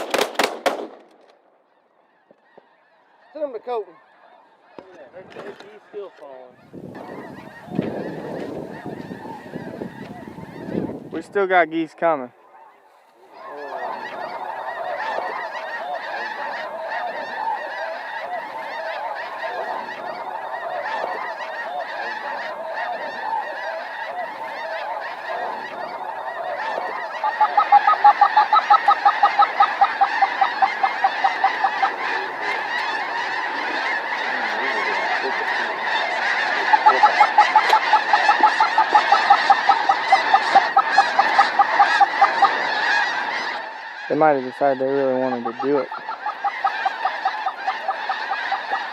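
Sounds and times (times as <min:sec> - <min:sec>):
fast evenly spaced goose calls: 0:00.0 - 0:48.9
geese honking: 0:01.5 - 0:48.9.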